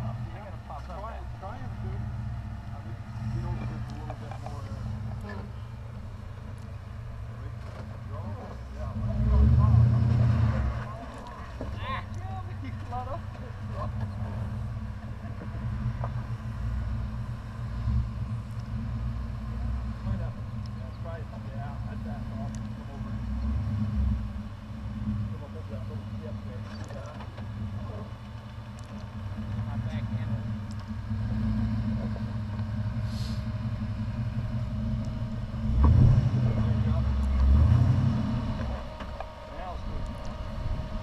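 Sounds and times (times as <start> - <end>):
engine running at low revs: 0.0 - 41.0.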